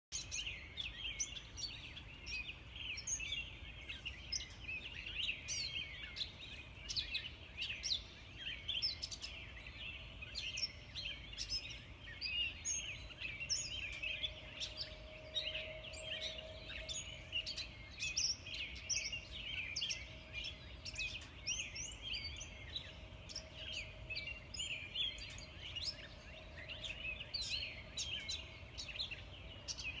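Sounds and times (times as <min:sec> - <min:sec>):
songbirds singing and chirping: 0:00.1 - 0:30.0.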